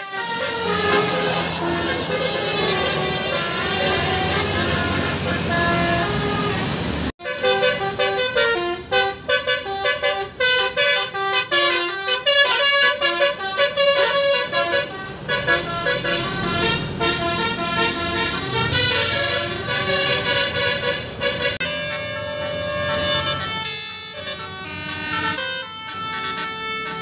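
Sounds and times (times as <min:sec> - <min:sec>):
musical bus air horn tune: 0:00.0 - 0:27.0.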